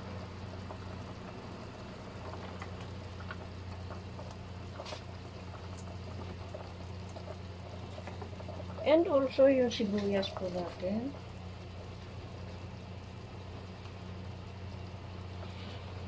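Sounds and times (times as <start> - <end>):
pot bubbling and popping: 0.0 - 16.0
steady low hum: 0.0 - 16.0.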